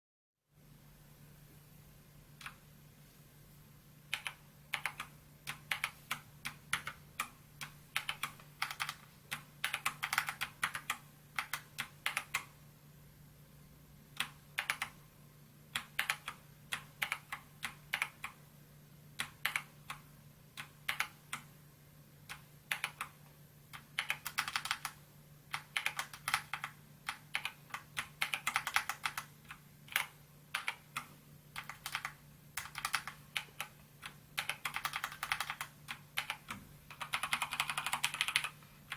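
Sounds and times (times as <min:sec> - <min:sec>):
faint steady hum: 0:00.4 - 0:38.9.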